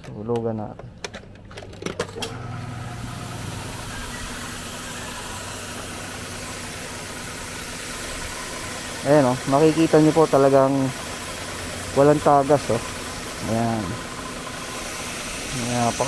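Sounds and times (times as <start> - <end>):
pressure washer pump motor: 2.0 - 16.0
high-pressure water jet hissing: 2.6 - 16.0.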